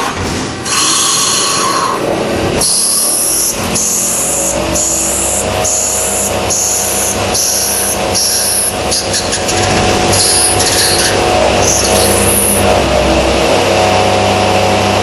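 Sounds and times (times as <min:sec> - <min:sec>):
low machine hum: 0:01.6 - 0:15.0.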